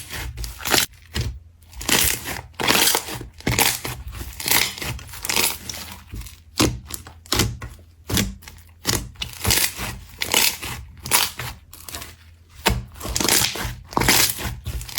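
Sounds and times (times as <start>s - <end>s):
slime squishing and popping: 0.4s - 14.9s.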